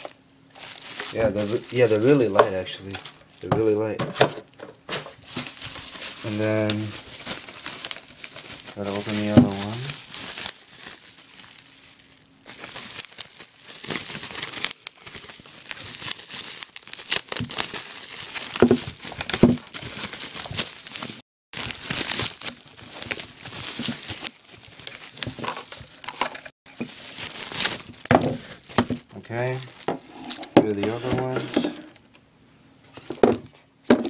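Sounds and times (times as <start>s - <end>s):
packaging crinkling and tearing: 0.0s - 3.8s, 5.0s - 31.6s.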